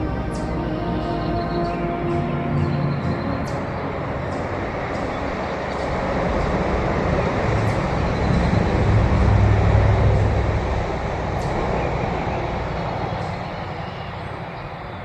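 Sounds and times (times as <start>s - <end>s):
dense rumbling noise: 0.0s - 15.0s
low drone: 0.0s - 15.0s.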